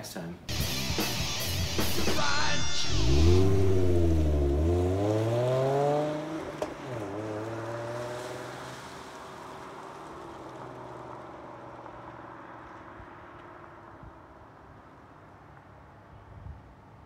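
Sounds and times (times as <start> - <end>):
car engine accelerating: 0.5 - 14.6.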